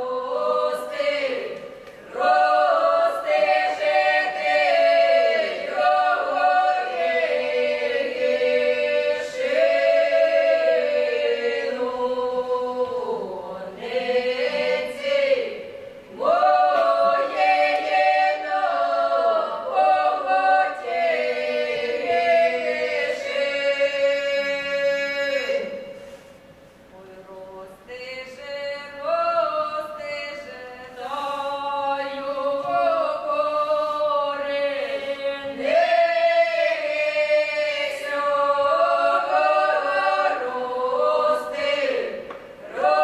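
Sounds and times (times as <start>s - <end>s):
unaccompanied mixed voices singing: 0.0s - 26.2s, 26.9s - 43.0s.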